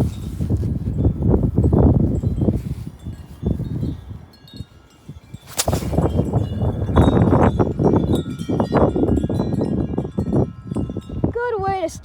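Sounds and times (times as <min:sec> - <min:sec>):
wind chimes ringing: 0:00.0 - 0:11.4
wind buffeting microphone: 0:00.0 - 0:12.0.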